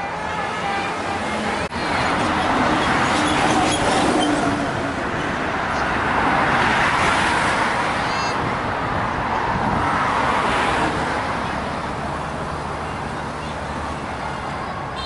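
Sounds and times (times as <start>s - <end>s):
road traffic passing at speed: 0.0s - 15.0s.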